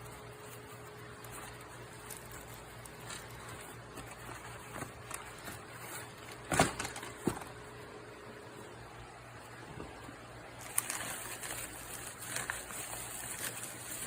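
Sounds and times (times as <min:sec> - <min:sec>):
indoor unit fan humming: 0:00.0 - 0:14.0.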